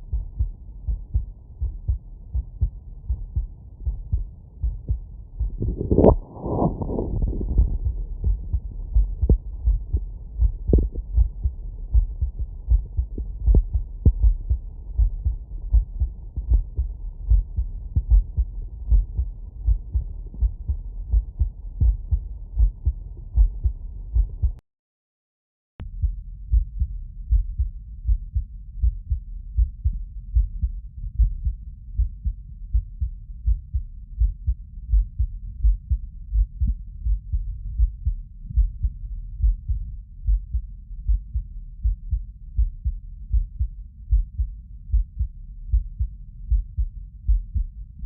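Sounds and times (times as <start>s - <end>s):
heartbeat through a stethoscope: 0.0s - 24.6s, 25.8s - 48.0s.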